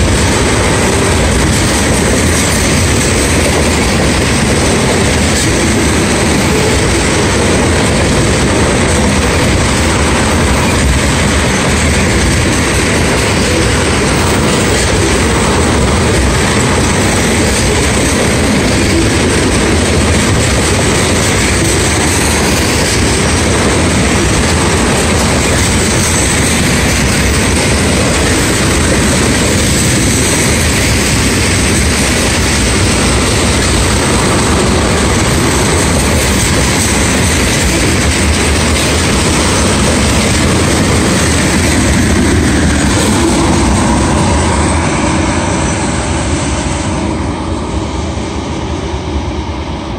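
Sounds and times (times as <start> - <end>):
train wheels rolling on rails: 0.0 - 49.9.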